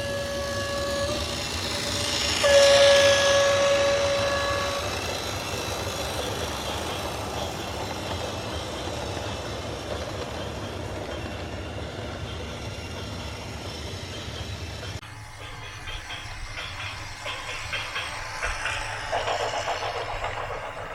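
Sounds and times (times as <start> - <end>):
train rumbling past: 0.0 - 20.9.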